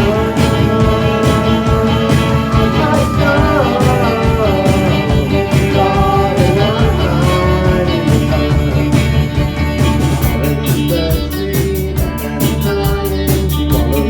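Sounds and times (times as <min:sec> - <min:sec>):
drums: 0:00.0 - 0:14.0
electric guitars: 0:00.0 - 0:14.0
live rock band: 0:00.0 - 0:14.0.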